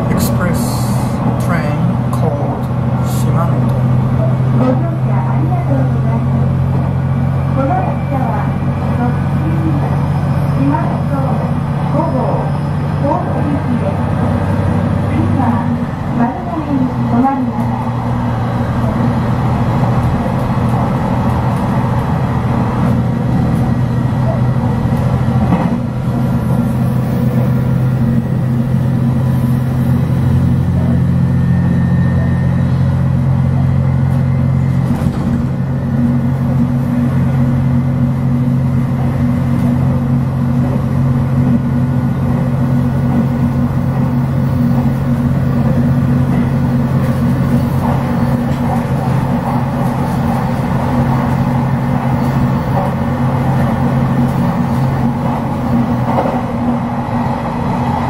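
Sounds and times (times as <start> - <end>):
low engine drone: 0.0 - 58.0
wheels clattering on rail: 7.6 - 31.0, 33.2 - 58.0.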